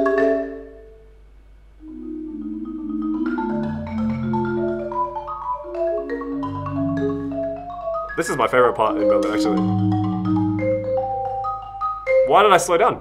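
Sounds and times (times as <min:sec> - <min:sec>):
marimba played with mallets: 0:00.0 - 0:01.0, 0:01.8 - 0:12.9.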